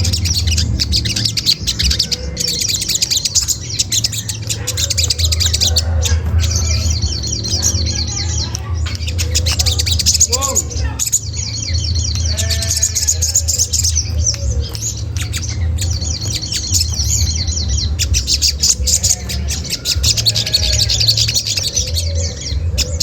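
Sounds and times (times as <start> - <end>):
bird chirping and chattering: 0.0 - 23.0
steady low hum: 0.0 - 23.0.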